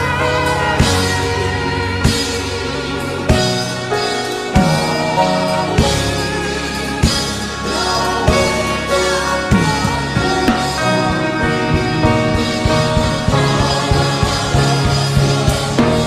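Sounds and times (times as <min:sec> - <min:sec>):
gospel band music: 0:00.0 - 0:16.0.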